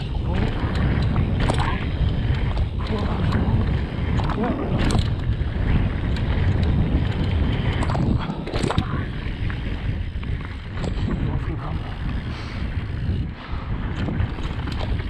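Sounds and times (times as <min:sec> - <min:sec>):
bike rattling and knocking: 0:00.0 - 0:15.0
wind buffeting microphone: 0:00.0 - 0:15.0.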